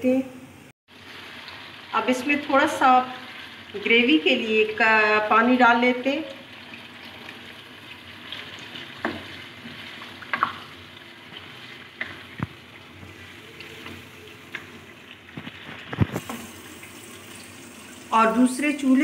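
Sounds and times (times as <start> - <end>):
curry sizzling in a wok: 0.9 - 19.0.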